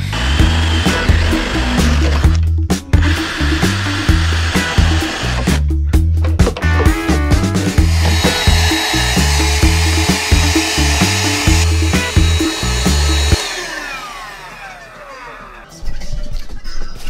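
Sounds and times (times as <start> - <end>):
background music with beat: 0.1 - 15.8.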